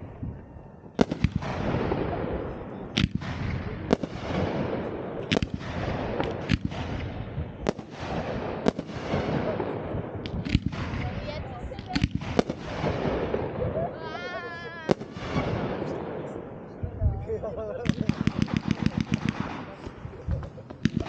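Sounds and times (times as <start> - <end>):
fireworks sharp bangs: 0.8 - 17.1, 17.7 - 21.0.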